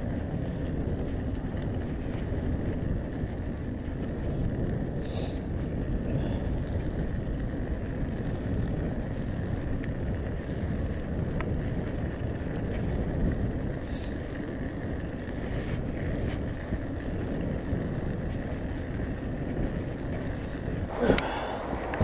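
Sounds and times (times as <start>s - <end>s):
bicycle ticks and rattles: 0.0s - 22.0s
wind buffeting microphone: 0.0s - 22.0s.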